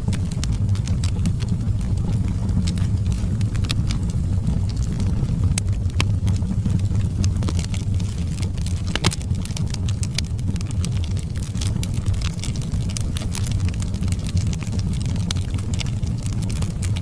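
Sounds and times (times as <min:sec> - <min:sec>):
burning wood crackling and popping: 0:00.0 - 0:17.0
fire flames roaring: 0:00.0 - 0:17.0.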